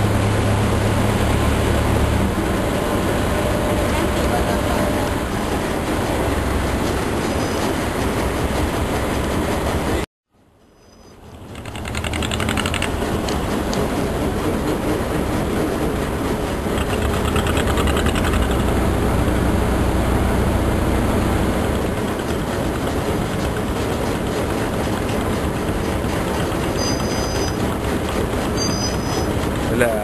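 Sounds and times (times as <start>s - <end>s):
boat engine rumbling: 0.0s - 10.0s, 11.1s - 30.0s
rush of water and air: 0.0s - 10.1s, 11.2s - 28.6s.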